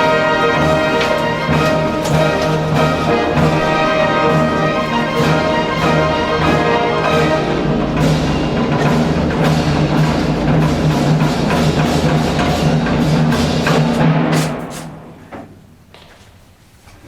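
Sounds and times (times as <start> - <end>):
orchestral music with brass: 0.0 - 15.1
percussion beat: 0.0 - 15.1.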